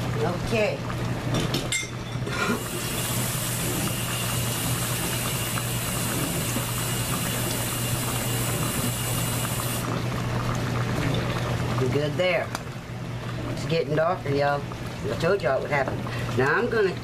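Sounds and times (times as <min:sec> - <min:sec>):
gravy bubbling in pot: 0:00.0 - 0:17.0.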